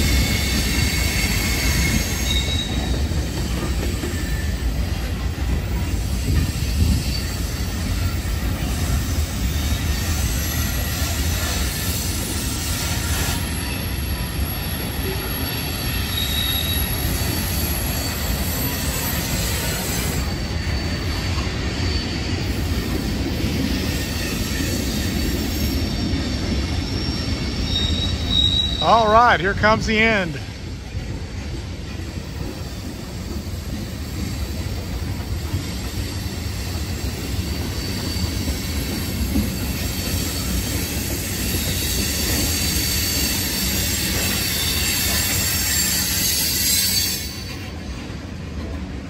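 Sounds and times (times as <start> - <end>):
high wheel squeals: 0.0 - 5.1, 5.8 - 29.2, 32.4 - 47.9
train wheels rumbling on rail: 0.0 - 49.0.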